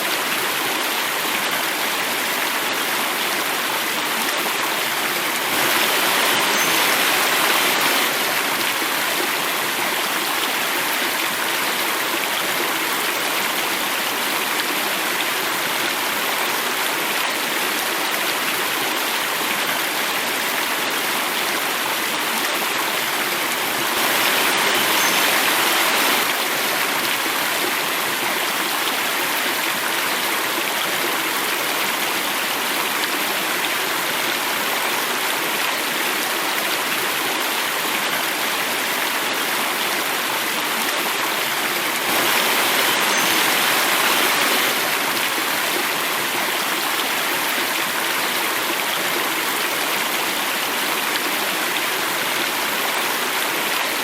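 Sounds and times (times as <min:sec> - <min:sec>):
water rushing in a stream: 0:00.0 - 0:54.0.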